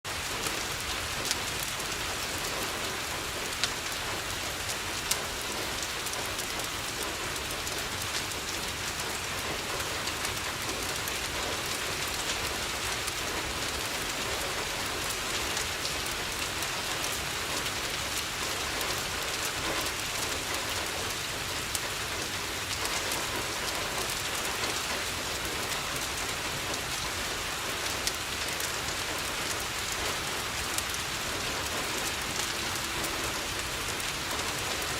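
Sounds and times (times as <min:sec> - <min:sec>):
rain on a window: 0:00.0 - 0:34.9
wood fire crackling and popping: 0:00.1 - 0:34.9.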